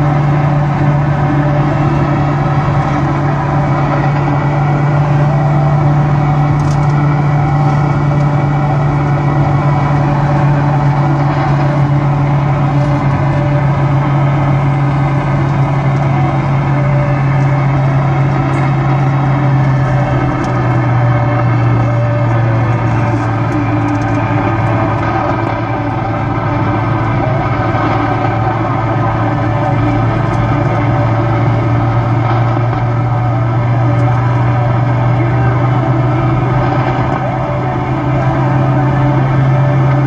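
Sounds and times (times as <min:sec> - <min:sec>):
steady low drone: 0:00.0 - 0:40.0.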